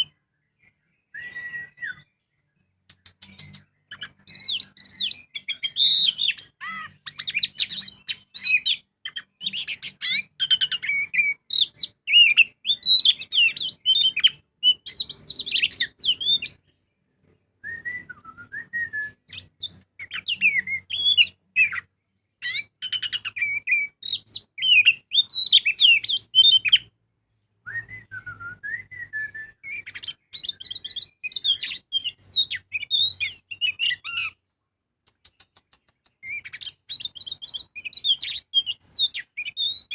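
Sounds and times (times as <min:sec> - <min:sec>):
magpie-robin singing: 0:00.0 - 0:34.4, 0:35.1 - 0:39.9.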